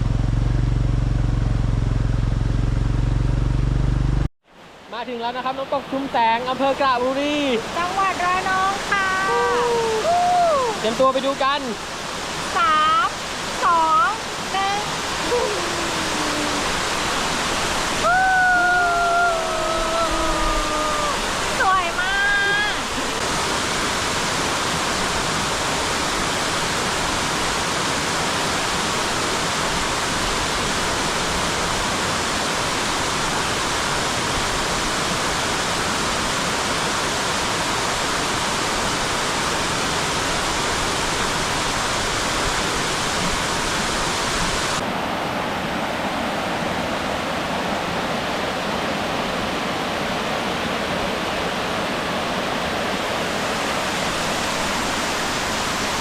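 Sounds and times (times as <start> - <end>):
waterfall rushing: 4.6 - 56.0.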